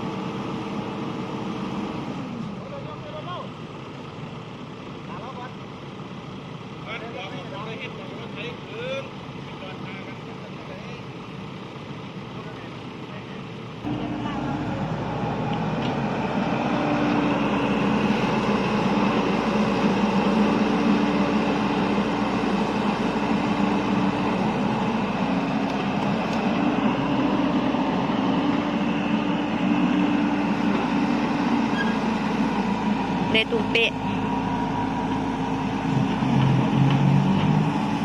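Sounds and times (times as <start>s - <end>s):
heavy diesel engine droning: 0.0s - 38.0s.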